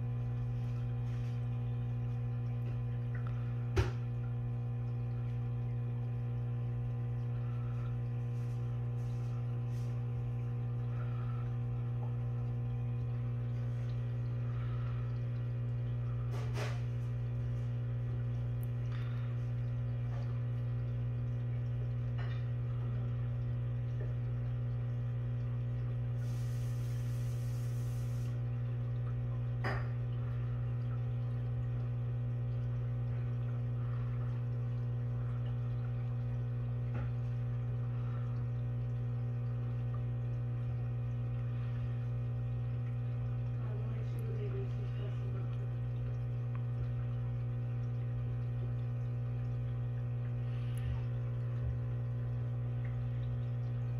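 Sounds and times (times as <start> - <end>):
aquarium pump humming: 0.0 - 53.9.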